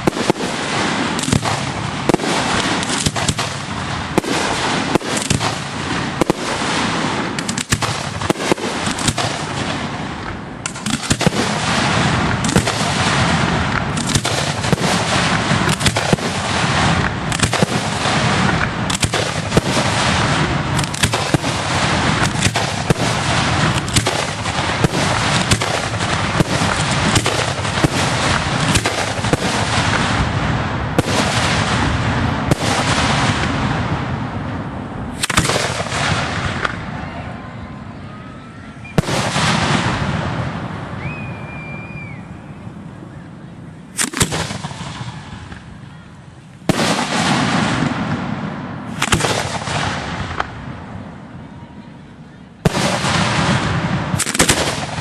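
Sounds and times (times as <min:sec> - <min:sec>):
fireworks launching and banging: 0:00.0 - 0:37.1, 0:38.8 - 0:43.0, 0:43.9 - 0:51.4, 0:52.6 - 0:55.0.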